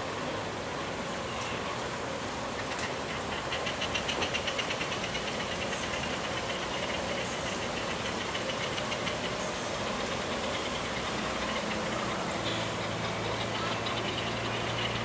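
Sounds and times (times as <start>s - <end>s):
steady background hiss: 0.0s - 15.0s
seabird rattling call: 2.5s - 15.0s.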